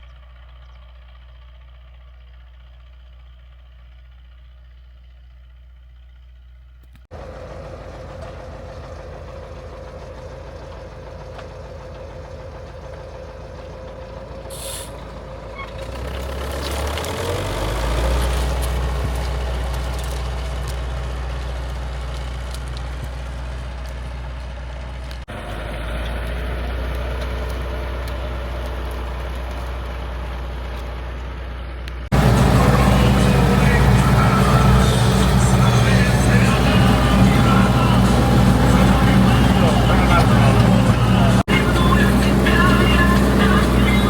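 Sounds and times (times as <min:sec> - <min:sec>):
old tractor engine running: 0:00.0 - 0:44.0.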